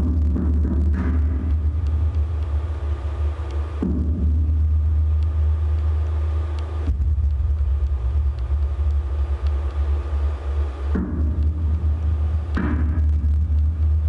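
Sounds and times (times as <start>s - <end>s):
deep rumbling metallic drone: 0.0s - 14.0s.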